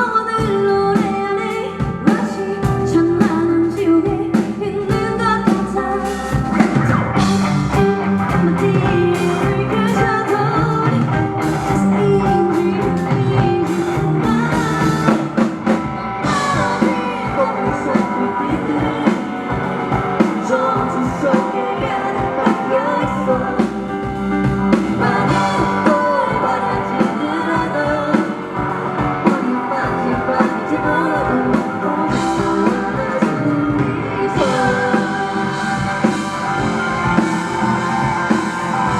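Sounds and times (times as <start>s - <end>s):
bass guitar: 0.0s - 38.9s
drum kit: 0.0s - 38.9s
electric guitar: 0.0s - 38.9s
keyboard: 0.0s - 38.9s
person singing lead vocal: 0.0s - 38.9s.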